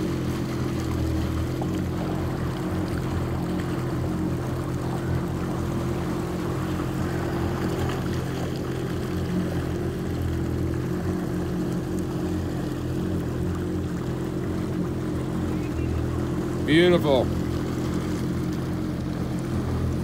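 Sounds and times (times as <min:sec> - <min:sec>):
water rushing: 0:00.0 - 0:20.0
watercraft engine droning: 0:00.0 - 0:20.0.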